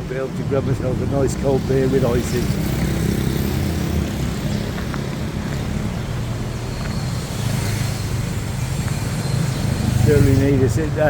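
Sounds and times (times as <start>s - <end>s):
road noise: 0.0s - 11.0s
vehicle engine humming: 0.0s - 11.0s.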